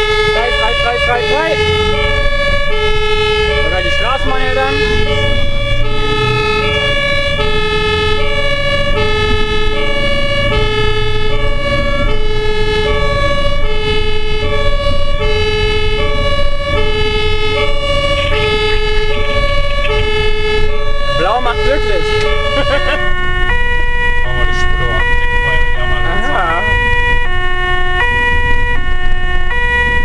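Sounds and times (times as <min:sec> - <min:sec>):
engine and road rumble: 0:00.0 - 0:30.0
two-tone ambulance siren: 0:00.0 - 0:30.0.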